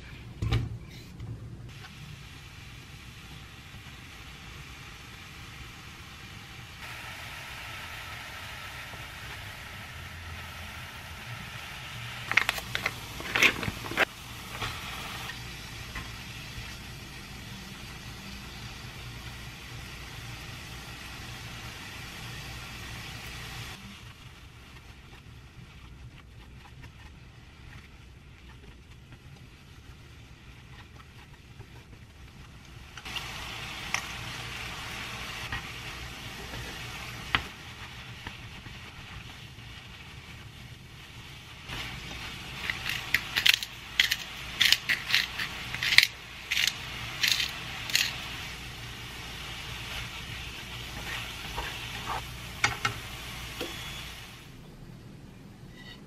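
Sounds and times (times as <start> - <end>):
vegetables sizzling in oil: 1.7 - 54.6.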